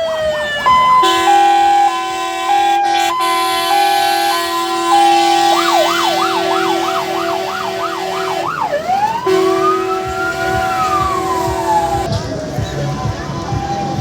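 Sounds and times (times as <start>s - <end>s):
fire engine siren: 0.0s - 14.0s.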